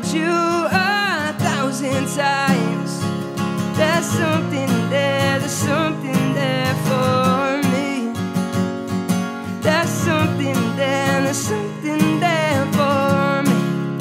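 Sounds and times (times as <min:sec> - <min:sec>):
man singing: 0:00.0 - 0:08.4, 0:09.6 - 0:14.0
acoustic guitar strummed: 0:00.0 - 0:14.0.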